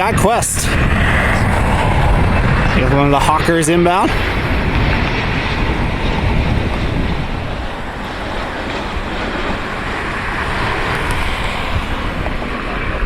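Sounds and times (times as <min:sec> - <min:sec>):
rushing wind roar: 0:00.0 - 0:13.0
wind buffeting microphone: 0:00.0 - 0:13.0.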